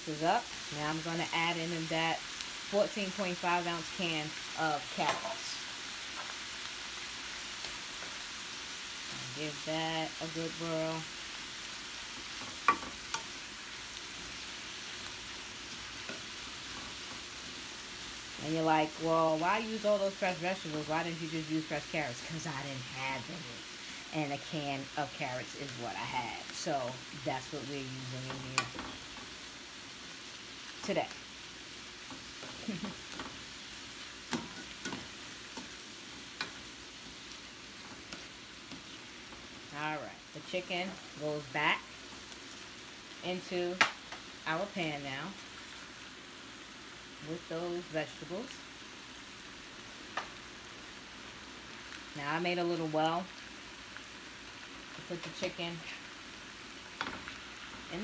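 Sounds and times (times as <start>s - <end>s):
vegetables sizzling in a pan: 0.0s - 58.0s.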